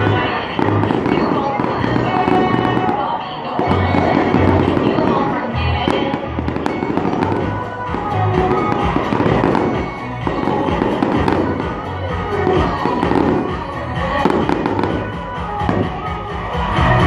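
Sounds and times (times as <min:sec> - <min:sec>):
fireworks cracking and banging: 0:00.0 - 0:17.0
music playing: 0:00.0 - 0:17.0.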